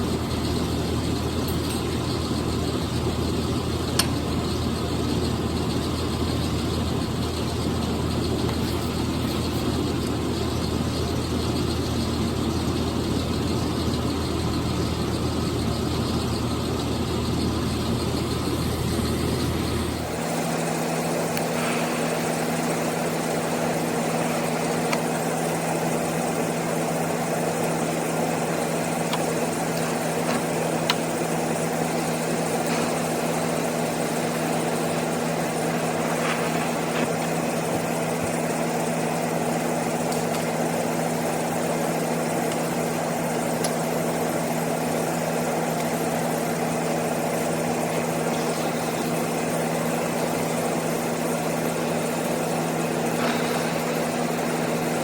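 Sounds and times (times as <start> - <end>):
shop equipment humming: 0.0 - 55.0.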